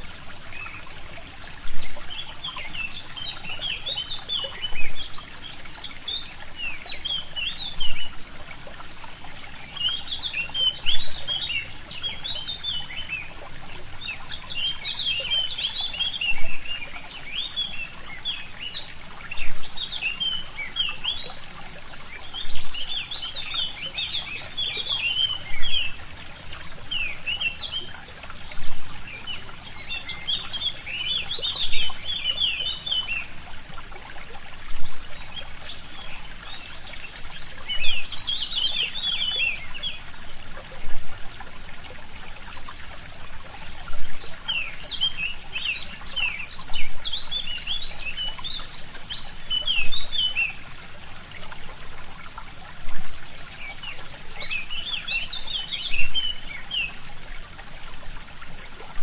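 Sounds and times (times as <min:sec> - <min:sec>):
small birds twittering: 0:00.0 - 0:59.0
stream trickling: 0:00.0 - 0:59.0.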